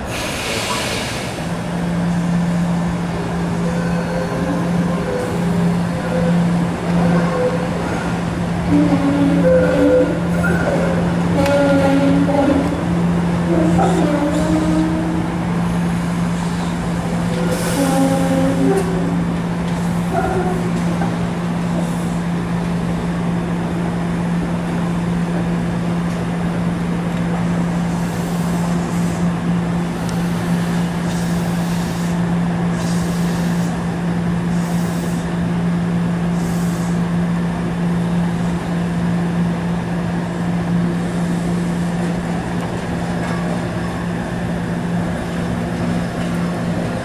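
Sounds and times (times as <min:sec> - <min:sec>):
streetcar electric hum: 0:00.0 - 0:47.0.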